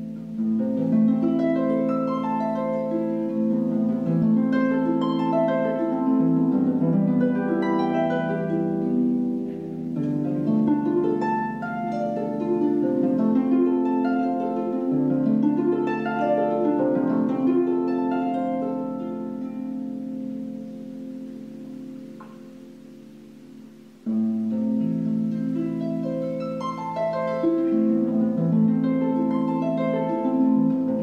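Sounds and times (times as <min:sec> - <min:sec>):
harp playing: 0:00.0 - 0:31.0.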